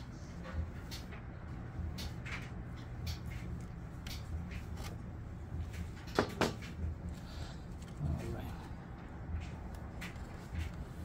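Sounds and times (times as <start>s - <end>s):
steady low hum: 0.0s - 11.0s
tape ticks and rustles: 0.2s - 11.0s.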